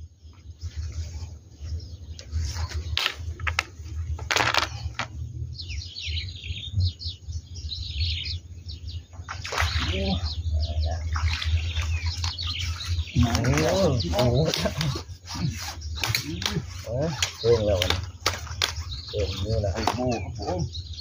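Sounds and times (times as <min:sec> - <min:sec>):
small birds twittering: 0:00.0 - 0:21.0.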